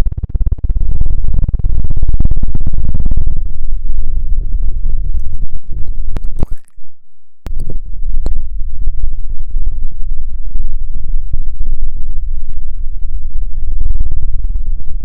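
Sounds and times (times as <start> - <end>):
heavy low rumble: 0.0 - 15.0.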